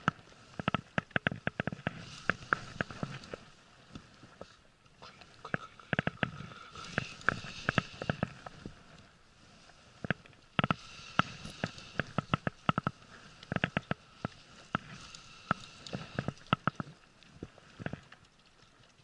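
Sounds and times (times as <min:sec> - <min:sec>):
faint hiss: 0:01.9 - 0:17.8.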